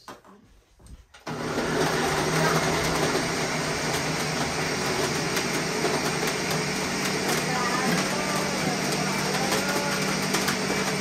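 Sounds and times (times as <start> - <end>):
blender running loudly: 1.3 - 11.0.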